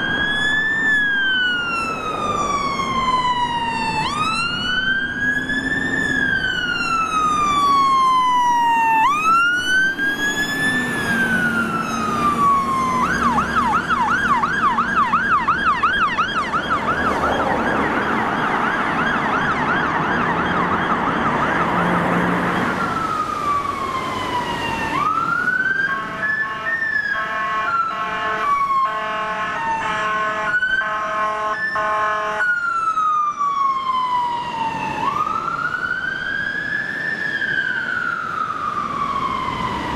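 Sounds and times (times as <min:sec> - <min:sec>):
fire engine siren: 0:00.0 - 0:39.9.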